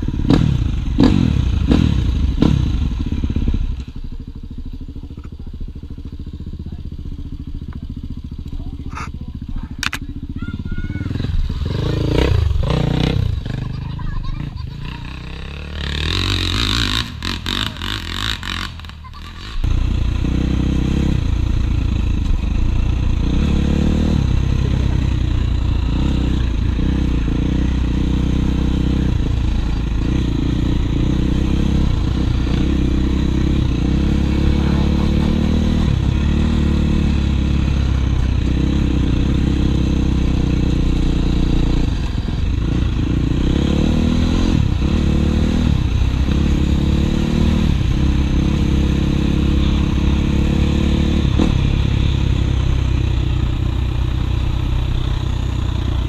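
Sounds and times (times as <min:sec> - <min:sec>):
dirt bike engine revving: 0:00.0 - 0:05.0, 0:05.6 - 0:56.0.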